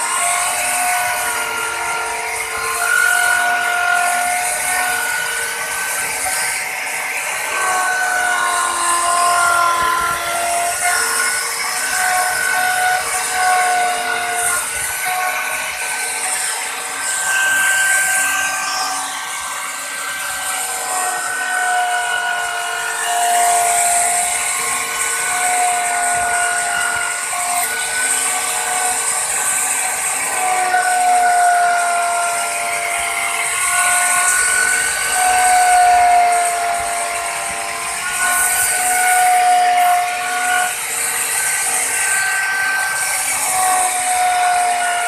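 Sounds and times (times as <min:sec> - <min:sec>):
router cutting wood: 0:00.0 - 0:45.0.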